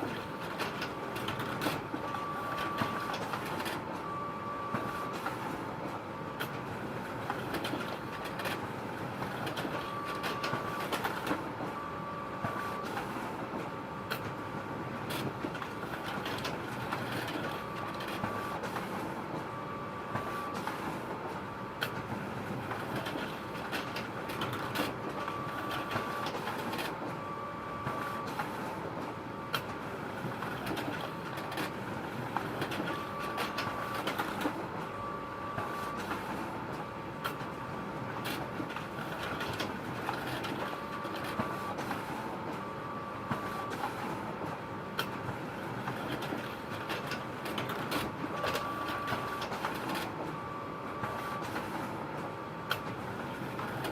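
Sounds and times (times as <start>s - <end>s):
photocopier whirring: 0.0s - 53.9s.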